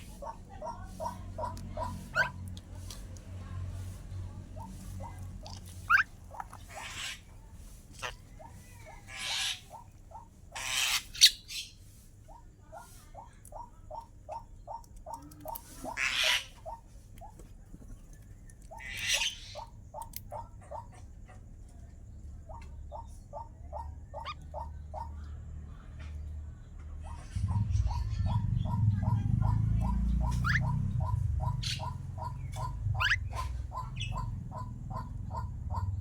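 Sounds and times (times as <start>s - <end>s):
starling chirping: 0.0s - 17.4s, 18.3s - 21.2s, 22.1s - 26.3s, 27.0s - 36.0s.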